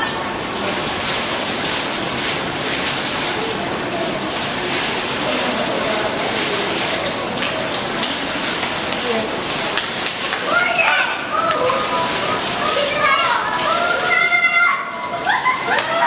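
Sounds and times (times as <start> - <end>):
water falling and splashing: 0.0 - 16.0.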